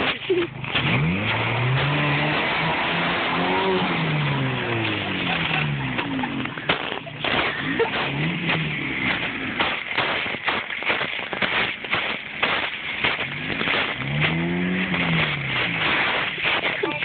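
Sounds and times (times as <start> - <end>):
engine revving: 0.0 - 17.0
steady rushing noise: 2.3 - 17.0.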